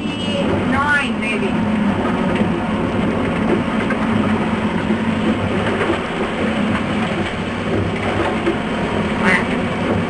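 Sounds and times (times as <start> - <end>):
boat engine droning: 0.0 - 10.0
hull and water noise: 0.0 - 10.0.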